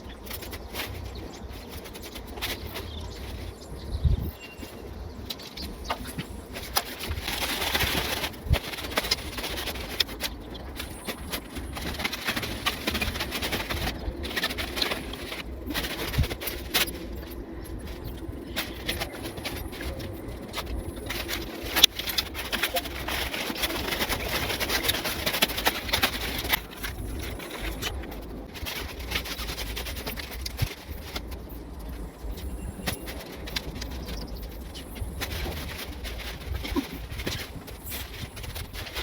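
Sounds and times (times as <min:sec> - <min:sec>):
birds calling: 0:00.0 - 0:39.0
rustling: 0:00.0 - 0:39.0.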